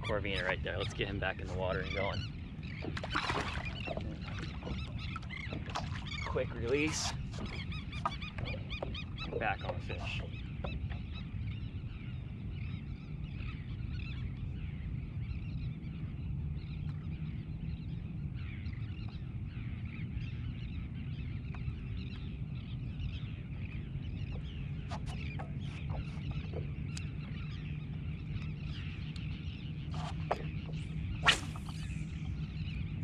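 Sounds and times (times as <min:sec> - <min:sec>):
steady low rumble: 0:00.0 - 0:03.0, 0:03.6 - 0:33.0
distant birds chirping: 0:00.0 - 0:33.0.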